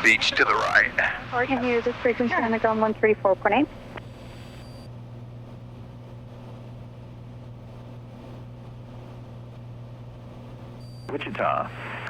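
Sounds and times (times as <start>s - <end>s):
propeller plane engine droning: 0.0s - 11.1s.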